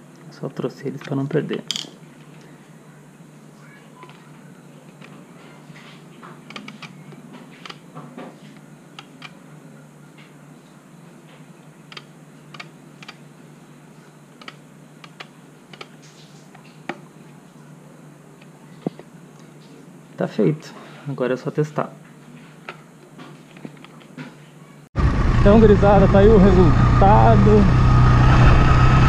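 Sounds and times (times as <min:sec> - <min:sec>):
steady low hum: 0:00.0 - 0:21.1, 0:21.8 - 0:29.0.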